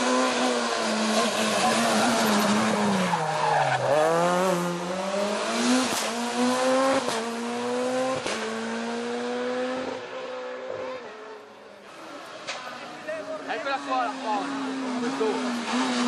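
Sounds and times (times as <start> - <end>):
rally car engine accelerating: 0.0 - 16.0.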